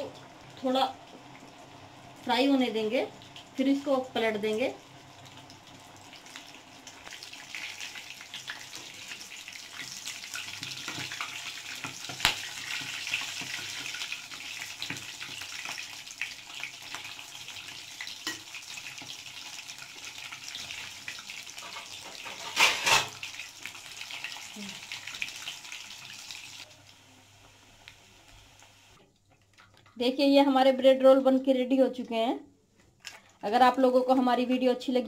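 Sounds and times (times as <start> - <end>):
deep-frying sizzle: 0.0 - 29.0.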